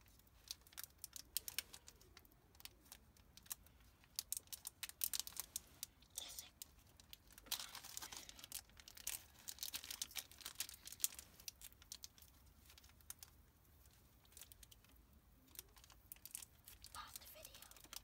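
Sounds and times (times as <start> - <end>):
foil wrapper crinkling and tearing: 0.0 - 5.9, 6.8 - 18.0.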